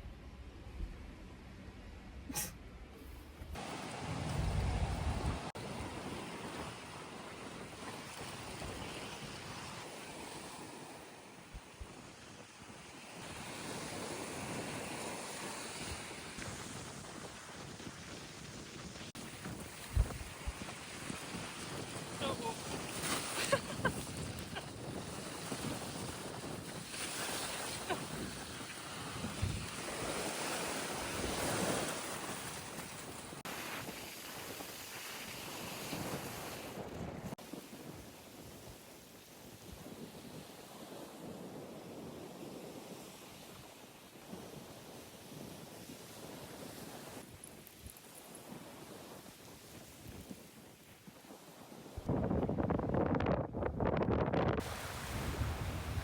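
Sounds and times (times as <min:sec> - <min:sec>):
wind rumbling on microphone: 0:02.3 - 0:56.0
waves washing onto beach: 0:03.6 - 0:52.1, 0:54.6 - 0:56.0.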